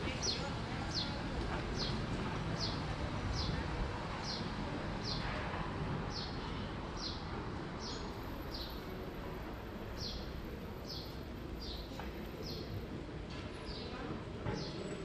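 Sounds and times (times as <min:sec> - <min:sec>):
street ambience: 0:00.0 - 0:15.0.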